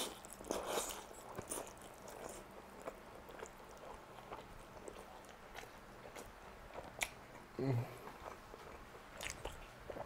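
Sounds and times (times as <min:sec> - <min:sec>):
soft chewing: 0:00.0 - 0:10.0.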